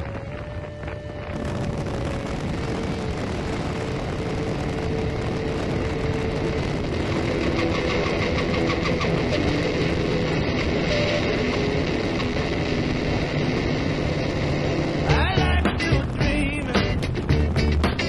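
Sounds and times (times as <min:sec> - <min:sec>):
motorcycle engines running: 0:00.0 - 0:18.0
road and wind noise: 0:00.0 - 0:18.0.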